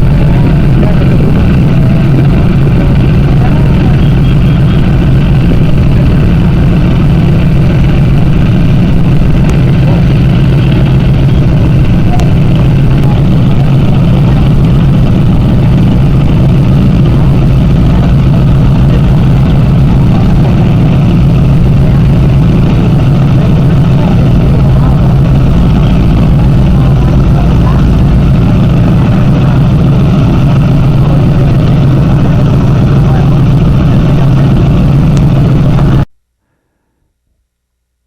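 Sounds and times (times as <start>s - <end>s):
powerboat engines droning: 0.0s - 36.1s.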